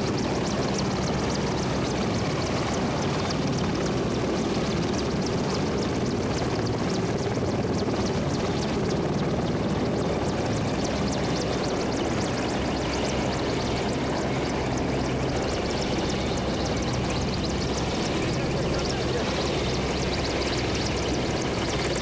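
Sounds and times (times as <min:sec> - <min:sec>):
helicopter engines and rotor: 0:00.0 - 0:22.0.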